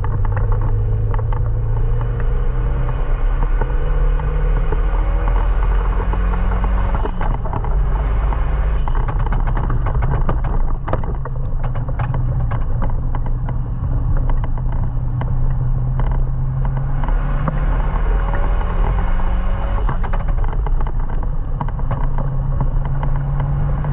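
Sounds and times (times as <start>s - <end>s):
car engine driving: 0.0s - 23.9s
sharp clicks and knocks: 0.0s - 23.9s.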